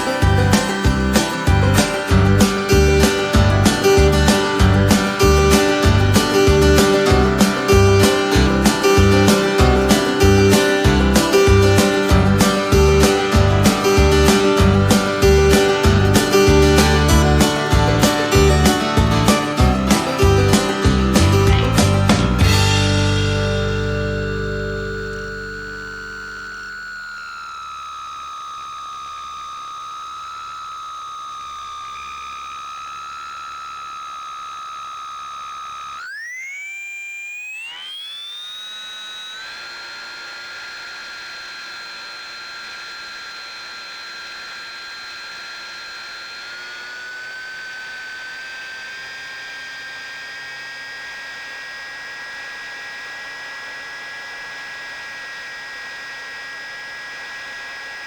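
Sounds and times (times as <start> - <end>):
electric motor and propeller whining: 0.0 - 58.0.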